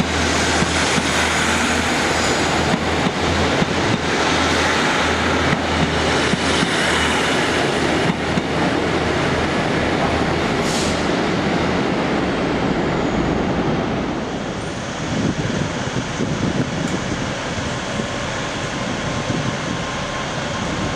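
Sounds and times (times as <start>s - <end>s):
train wheels on track: 0.0s - 20.9s.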